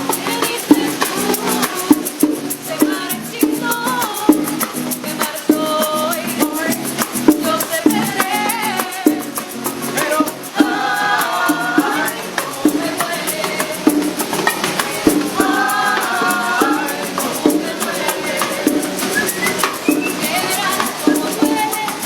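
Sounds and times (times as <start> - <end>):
latin music: 0.0 - 22.0
shaker rhythm: 0.0 - 22.0
voices singing: 0.0 - 22.0.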